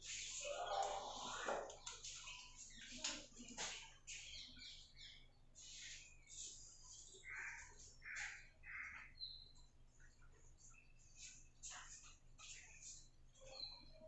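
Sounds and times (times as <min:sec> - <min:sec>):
faint bird calls and chirps: 0:00.0 - 0:14.0.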